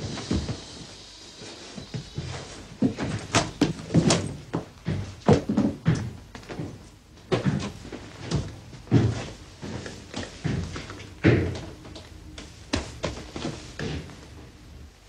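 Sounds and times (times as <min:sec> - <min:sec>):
bodies thumping and banging: 0:01.9 - 0:14.4.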